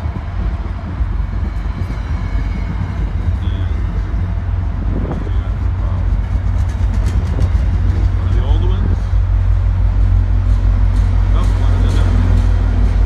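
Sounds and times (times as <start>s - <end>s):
train coaches rolling past: 0.0s - 13.0s.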